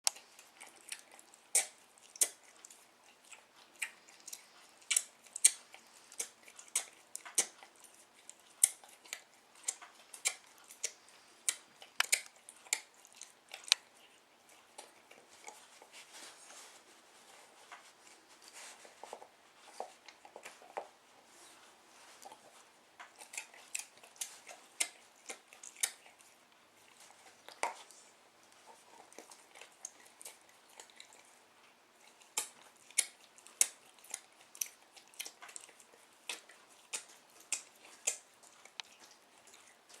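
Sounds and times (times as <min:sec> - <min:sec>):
dog chewing with crunching clicks: 0:00.0 - 0:16.3, 0:17.3 - 0:21.0, 0:22.1 - 0:40.0.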